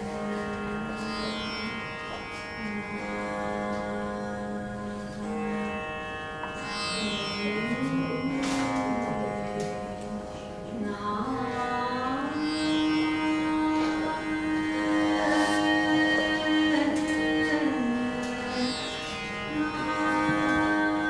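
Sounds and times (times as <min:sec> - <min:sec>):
veena playing classical melody: 0:00.0 - 0:21.0.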